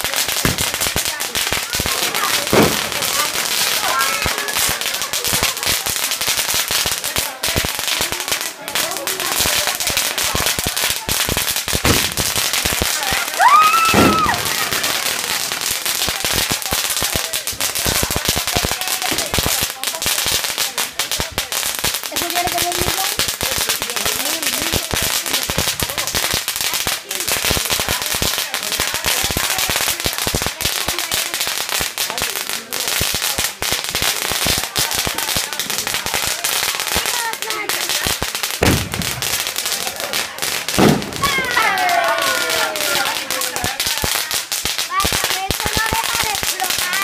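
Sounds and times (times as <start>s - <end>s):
fireworks crackling and popping: 0.0s - 47.0s.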